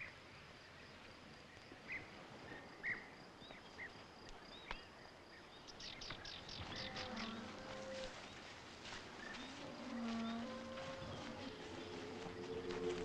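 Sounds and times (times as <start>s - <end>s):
insect drone: 0.0s - 13.0s
birds chirping: 1.8s - 13.0s.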